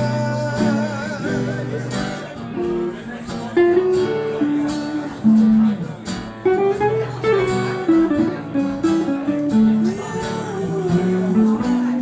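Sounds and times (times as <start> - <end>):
lead guitar melody: 0.0 - 12.0
strummed guitar chords: 0.0 - 12.0.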